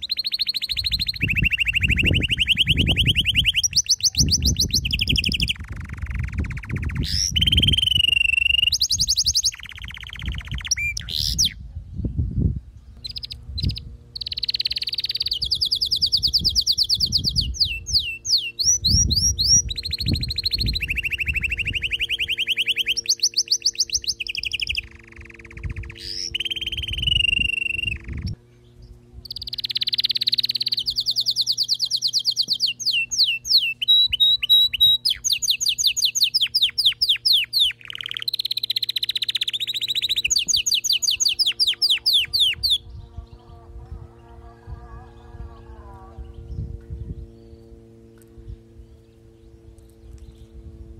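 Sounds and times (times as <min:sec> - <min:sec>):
canary singing trills: 0:00.0 - 0:11.6, 0:13.0 - 0:50.6.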